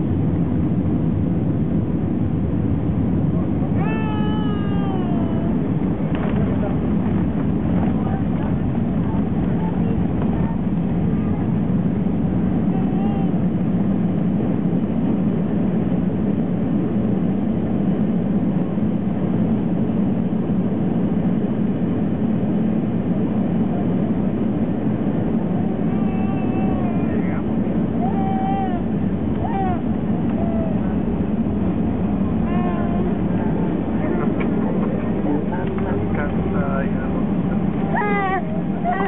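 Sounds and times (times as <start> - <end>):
airplane cabin roar: 0.0 - 39.0.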